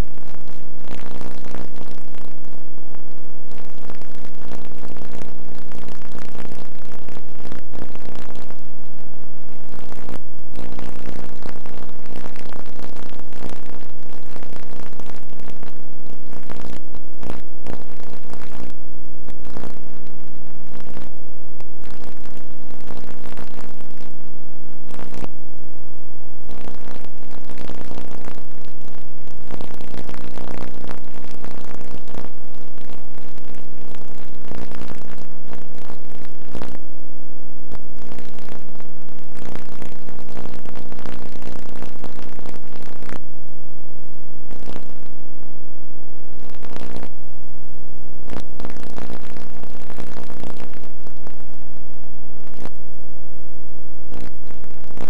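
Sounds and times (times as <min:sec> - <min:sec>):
dense crackling: 0:00.0 - 0:55.0
loud steady buzzing hum: 0:00.0 - 0:55.0.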